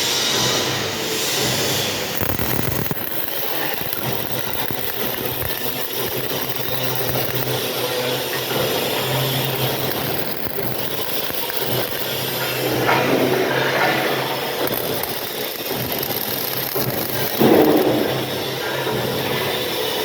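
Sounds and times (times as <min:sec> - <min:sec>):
arc welding crackling hiss: 0:00.0 - 0:20.0
welding machine electrical hum: 0:00.0 - 0:20.0.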